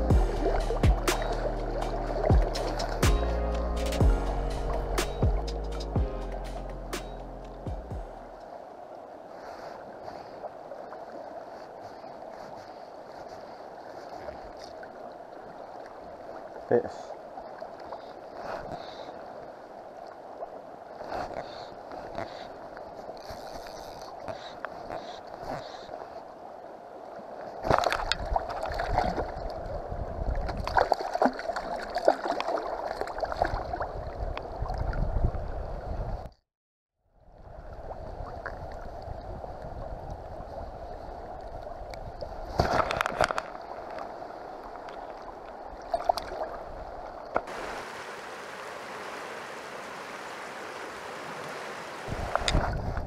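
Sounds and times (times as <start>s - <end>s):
river water rushing and gurgling: 0.0s - 23.2s, 25.2s - 35.0s, 37.4s - 53.0s.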